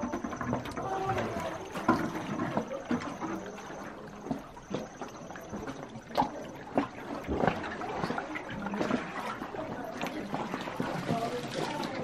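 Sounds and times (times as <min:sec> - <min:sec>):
paddle splashes: 0:00.0 - 0:12.0
water trickling and dripping: 0:00.0 - 0:12.0.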